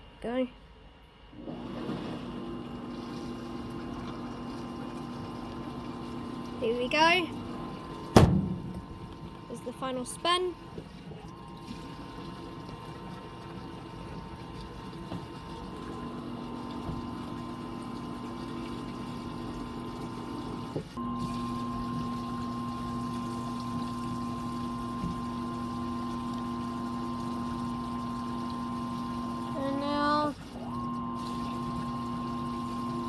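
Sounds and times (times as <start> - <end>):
washing machine motor hum and whine: 0.0 - 33.0
water being pumped out: 1.4 - 33.0.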